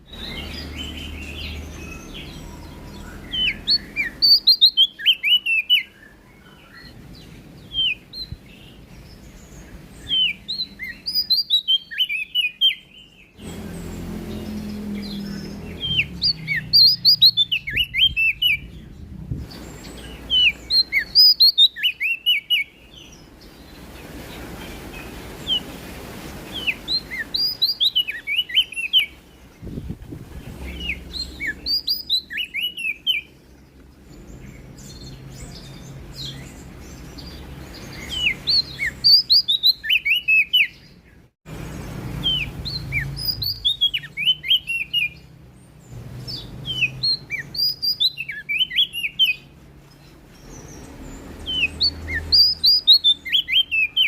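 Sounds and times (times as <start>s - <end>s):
songbird chirping: 0.0s - 54.0s.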